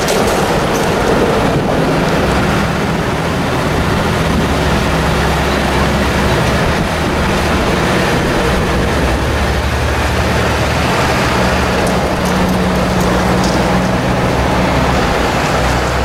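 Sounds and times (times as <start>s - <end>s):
fire engines driving past: 0.0s - 16.0s
road and tyre noise: 0.0s - 16.0s.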